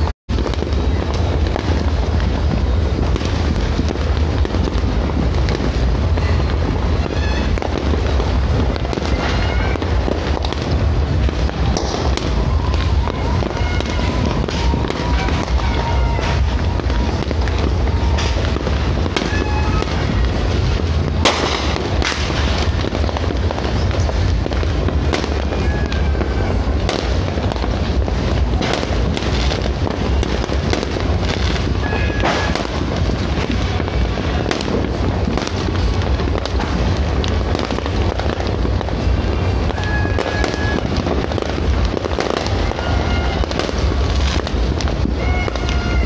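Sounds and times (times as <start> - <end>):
firework bang: 0.0 - 46.0
firework whistling: 0.0 - 46.0
fireworks pops and crackles: 0.0 - 46.0
low rumble: 0.0 - 46.0.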